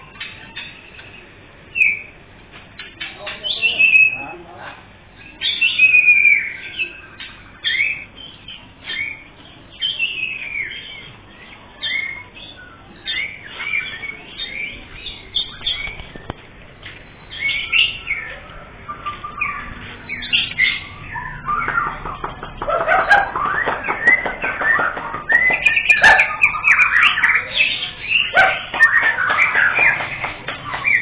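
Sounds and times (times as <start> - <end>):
songbirds chirping and whistling: 0.0 - 31.0.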